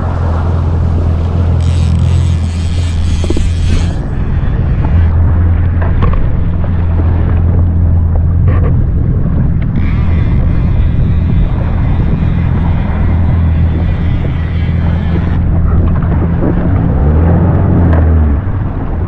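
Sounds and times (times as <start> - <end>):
jet ski engine humming: 0.0 - 19.0
wind buffeting microphone: 0.0 - 19.0.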